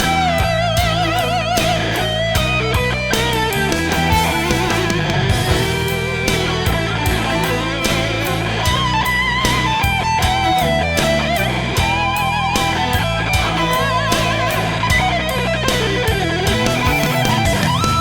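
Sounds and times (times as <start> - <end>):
bass: 0.0 - 18.0
drum beat: 0.0 - 18.0
lead electric guitar melody: 0.0 - 18.0.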